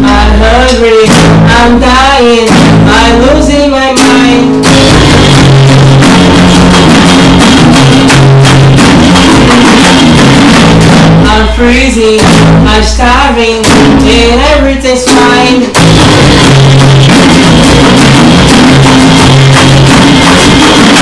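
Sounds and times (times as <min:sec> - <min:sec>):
drums and cymbals crashing: 0:00.0 - 0:21.0
person singing: 0:00.0 - 0:21.0
rock band playing: 0:00.0 - 0:21.0.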